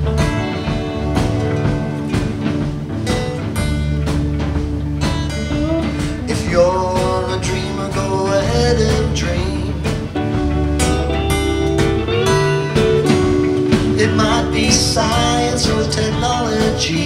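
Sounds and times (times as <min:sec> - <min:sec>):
acoustic and electric guitars: 0:00.0 - 0:17.0
pitch-bending lead guitar line: 0:00.0 - 0:17.0
steady drum beat: 0:00.0 - 0:17.0.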